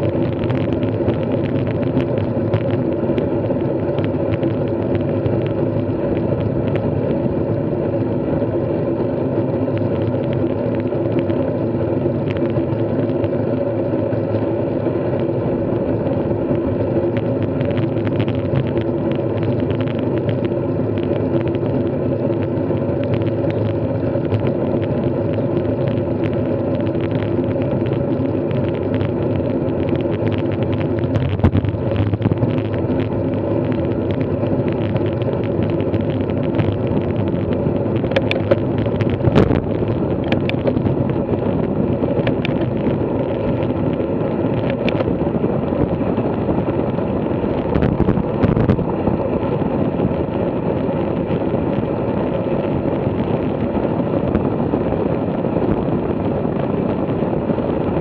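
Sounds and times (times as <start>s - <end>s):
bike hum and rumble: 0.0s - 58.0s.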